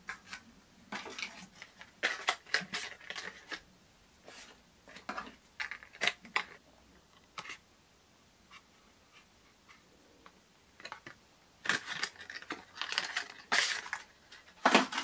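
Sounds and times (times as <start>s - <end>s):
hands handling cardboard and plastic: 0.0s - 7.6s, 8.5s - 15.0s.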